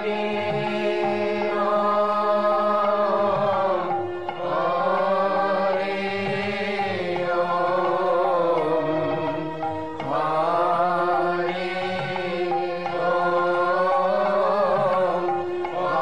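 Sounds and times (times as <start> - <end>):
devotional chanting: 0.0 - 16.0.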